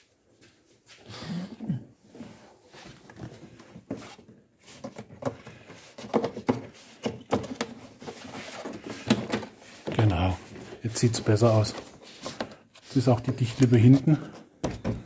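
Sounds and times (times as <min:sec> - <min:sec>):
plastic and rubber scraping: 0:02.2 - 0:15.0.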